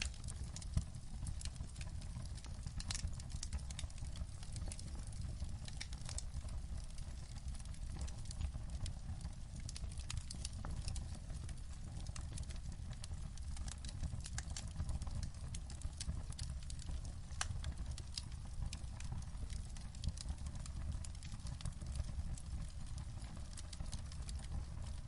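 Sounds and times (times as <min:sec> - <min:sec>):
low rumble of fire: 0:00.0 - 0:25.0
wood fire pops and snaps: 0:00.0 - 0:25.0.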